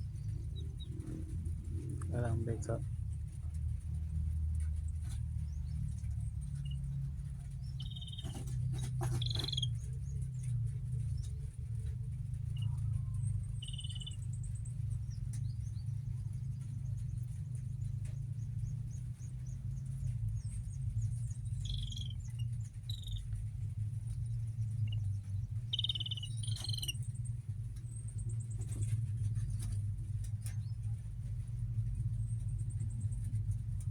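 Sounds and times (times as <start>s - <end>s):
small bird chirping: 0.0s - 1.5s, 4.7s - 31.0s
steady low hum: 0.0s - 33.9s.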